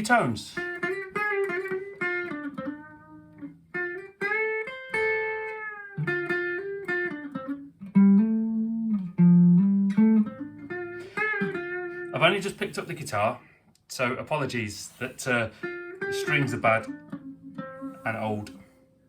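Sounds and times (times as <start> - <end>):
electric guitar notes and chords: 0.0 - 12.1, 15.5 - 19.0.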